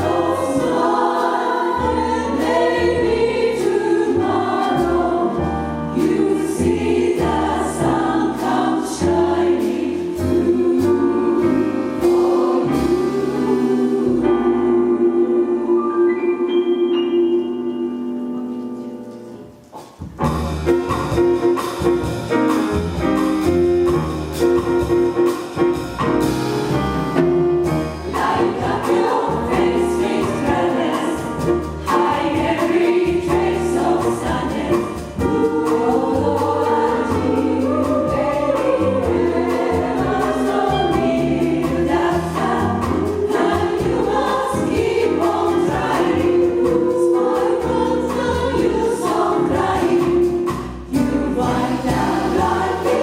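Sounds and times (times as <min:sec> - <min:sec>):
jazz chorus singing in harmony: 0:00.0 - 0:53.0
small band playing: 0:00.0 - 0:53.0.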